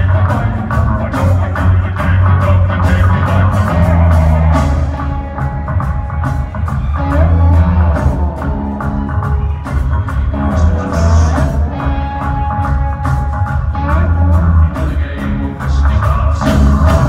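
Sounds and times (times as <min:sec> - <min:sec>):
bass line: 0:00.0 - 0:17.0
drum kit beat: 0:00.0 - 0:17.0
electric guitar: 0:00.0 - 0:17.0.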